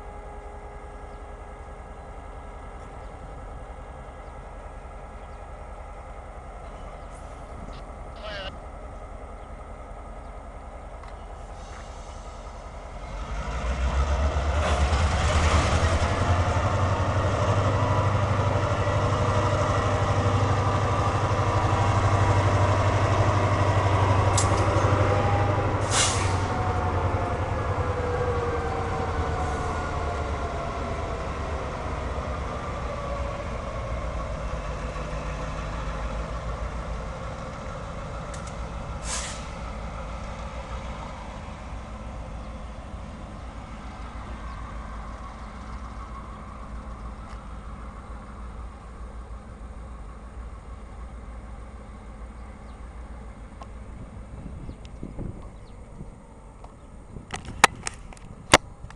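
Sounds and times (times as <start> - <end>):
diesel locomotive engine rumble: 0.0 - 58.9.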